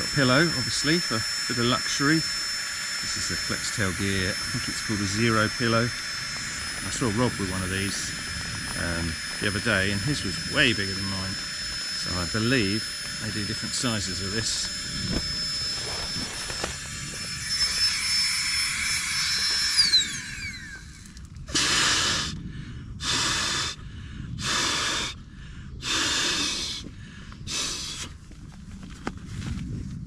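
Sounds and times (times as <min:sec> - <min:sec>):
battery air pump whining: 0:00.0 - 0:30.0.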